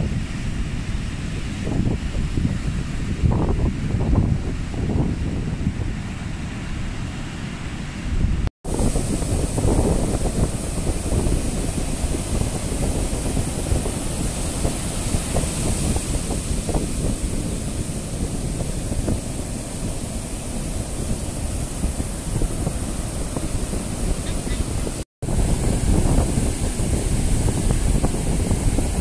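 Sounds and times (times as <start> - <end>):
surf breaking on a beach: 0.0 - 29.0
wind buffeting microphone: 0.0 - 29.0.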